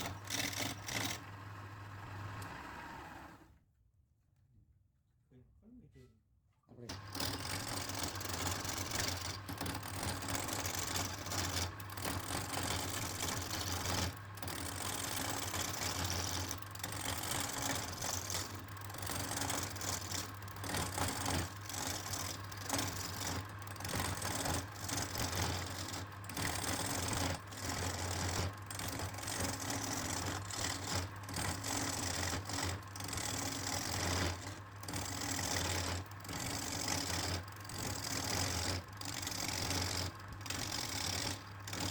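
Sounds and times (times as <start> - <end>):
lathe motor humming: 0.0 - 3.4, 6.9 - 41.9
tool cutting spinning wood: 0.0 - 3.4, 6.9 - 41.9.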